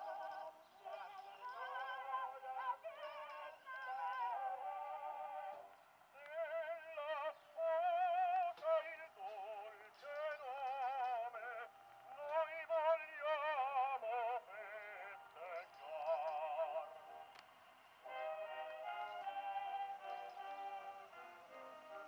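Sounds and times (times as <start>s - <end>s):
record playing on acoustic phonograph: 0.0s - 22.0s.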